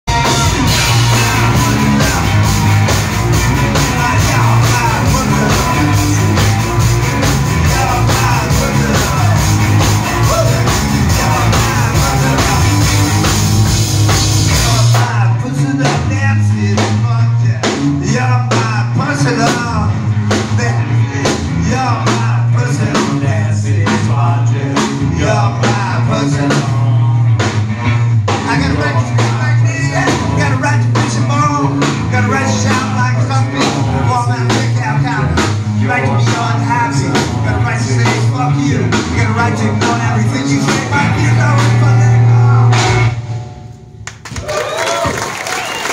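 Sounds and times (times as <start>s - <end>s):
electric bass line: 0.0s - 44.2s
drums keeping a beat: 0.0s - 45.9s
electric guitar: 0.1s - 45.9s.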